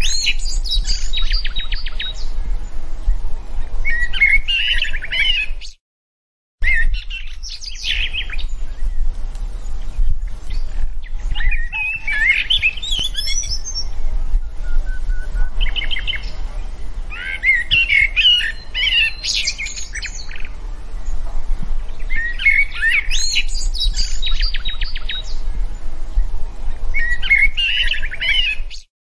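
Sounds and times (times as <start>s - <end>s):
steady low rumble: 0.0s - 4.3s, 6.9s - 11.8s, 12.4s - 28.2s
songbirds warbling and chirping: 0.0s - 5.8s, 6.6s - 28.8s.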